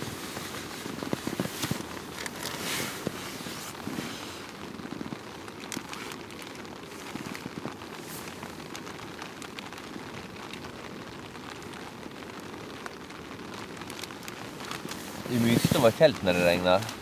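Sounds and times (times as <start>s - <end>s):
rain on a tent: 0.0s - 17.0s
raindrop ticks: 0.1s - 17.0s.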